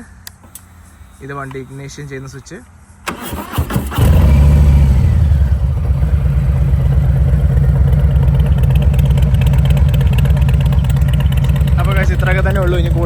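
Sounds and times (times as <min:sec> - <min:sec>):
motorcycle engine starting and idling: 0:00.0 - 0:13.0.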